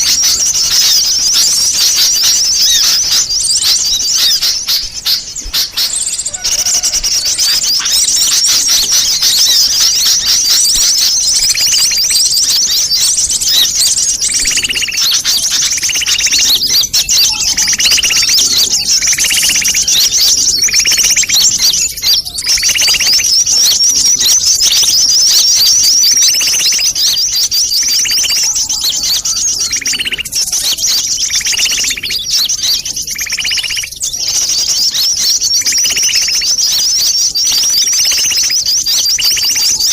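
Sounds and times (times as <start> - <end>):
sunbirds twittering: 0.0 - 39.9.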